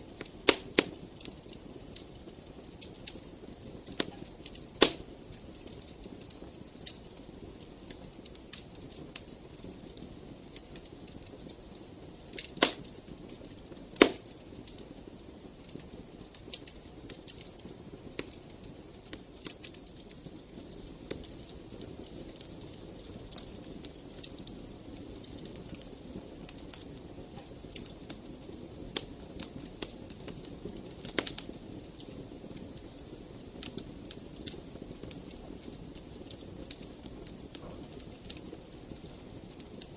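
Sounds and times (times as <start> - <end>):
loud pops from fire: 0.0 - 39.9
wood fire crackling: 0.0 - 39.9.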